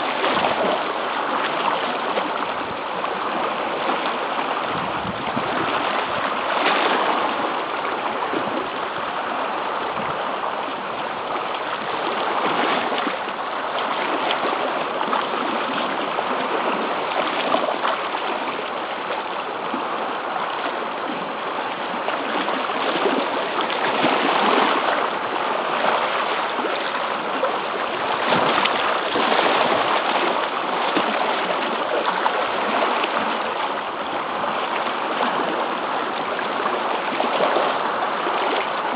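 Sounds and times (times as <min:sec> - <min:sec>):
sea surf on rocky shore: 0:00.0 - 0:38.9.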